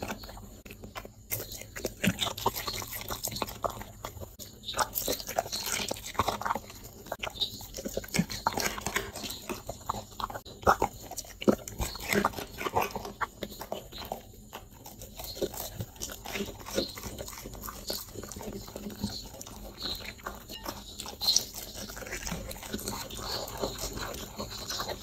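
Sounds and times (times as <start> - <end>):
dog chewing and crunching food: 0.0 - 25.0.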